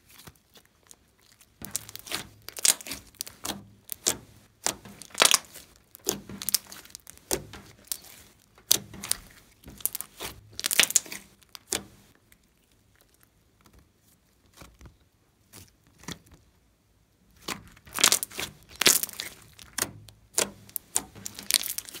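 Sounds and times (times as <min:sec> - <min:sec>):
slime crackling and popping: 0:00.1 - 0:13.8, 0:17.4 - 0:22.0.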